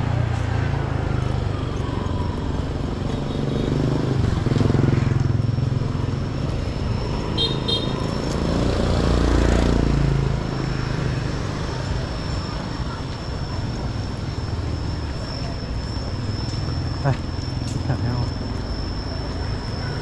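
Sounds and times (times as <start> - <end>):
motorbike engines passing: 0.0 - 20.0.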